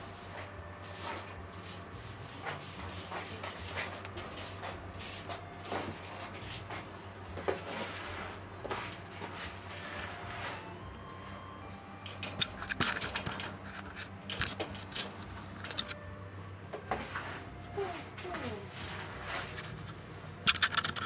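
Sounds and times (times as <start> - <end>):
cats shifting and grooming: 0.0 - 21.0
steady low hum: 0.0 - 21.0.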